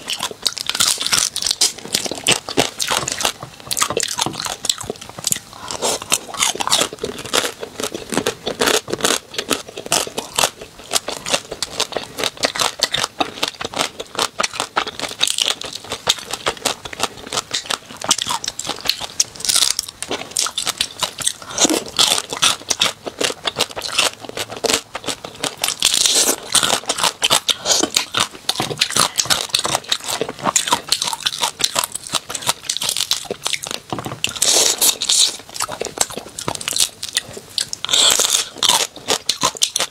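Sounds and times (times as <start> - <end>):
wet crunching and chewing: 0.0 - 39.9.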